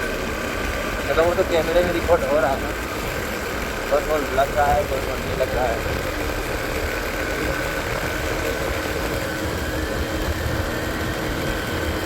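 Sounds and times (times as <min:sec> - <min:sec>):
low road rumble: 0:00.0 - 0:12.0
vehicle engine running: 0:00.0 - 0:12.0.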